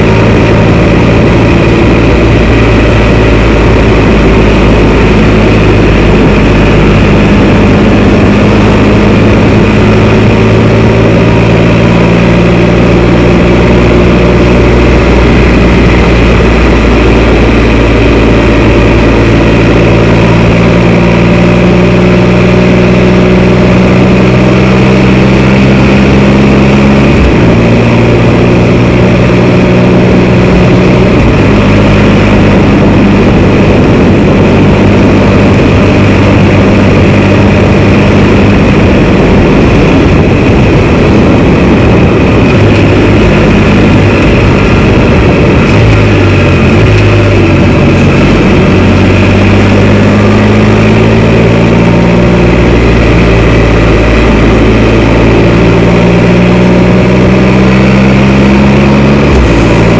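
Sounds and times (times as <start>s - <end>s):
loud rushing noise: 0.0s - 59.9s
motorbike engine running: 0.0s - 59.9s.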